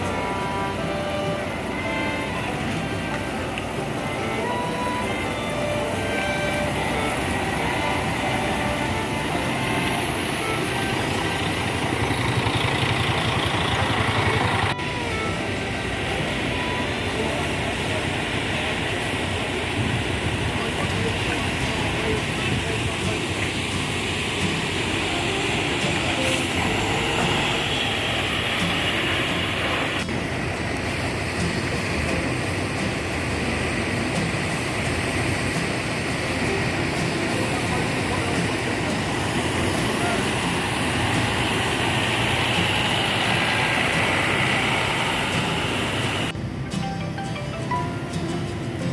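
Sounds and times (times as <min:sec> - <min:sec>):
bus engine idling: 0:00.0 - 0:48.9.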